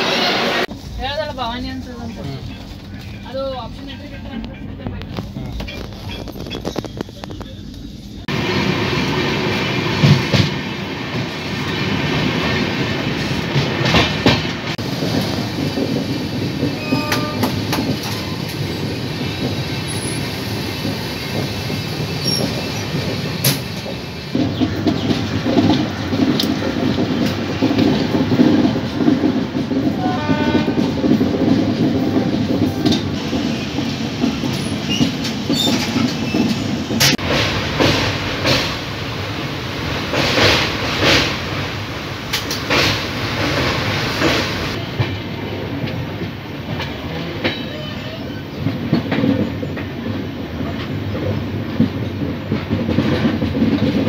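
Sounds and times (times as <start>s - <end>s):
train wheels rumbling and rattling: 0.0s - 54.0s.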